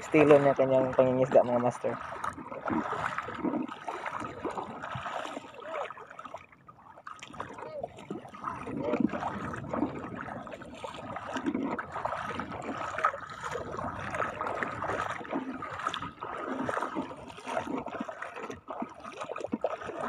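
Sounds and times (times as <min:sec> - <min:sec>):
seawater sloshing and gurgling: 0:00.0 - 0:20.0
splashes of wading: 0:00.0 - 0:20.0.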